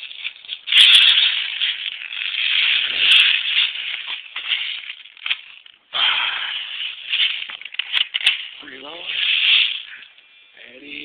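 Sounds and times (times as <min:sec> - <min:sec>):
plastic pellets rattling: 0:00.0 - 0:10.1.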